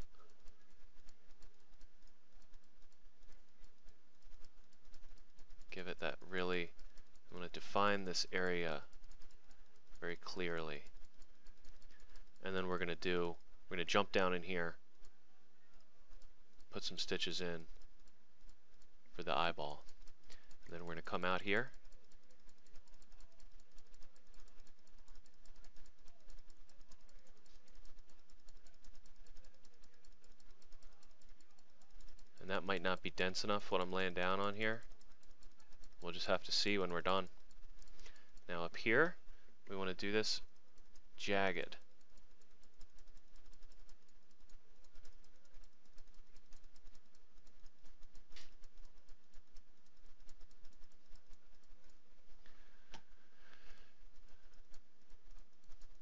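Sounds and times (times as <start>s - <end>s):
computer mouse clicking: 0.0s - 56.0s
low steady hum: 0.0s - 56.0s.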